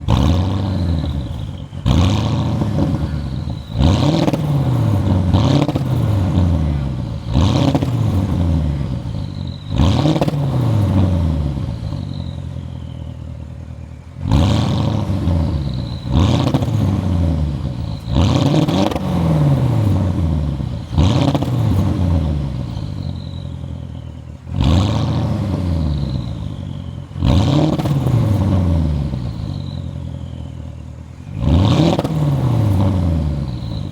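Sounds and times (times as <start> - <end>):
car engine revving in blips: 0.0 - 33.9.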